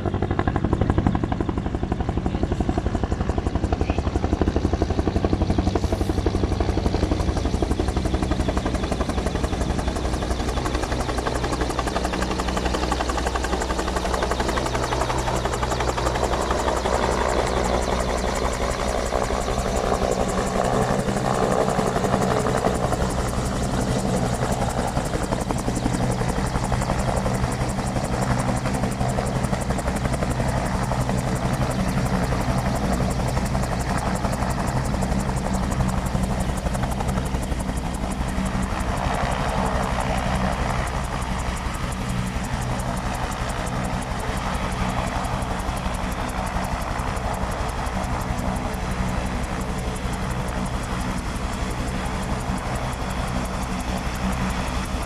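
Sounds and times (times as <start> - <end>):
helicopter rotor and turbines: 0.0 - 55.0.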